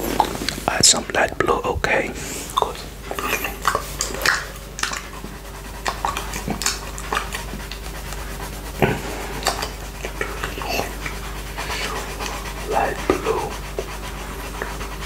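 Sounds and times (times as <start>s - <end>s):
tongue licking glass dish: 2.4s - 15.0s.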